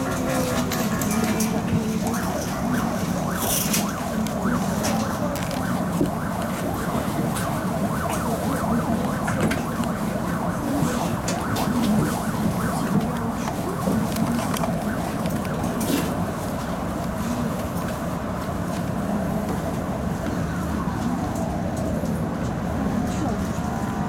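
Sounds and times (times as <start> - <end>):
tram equipment humming: 0.0 - 24.0.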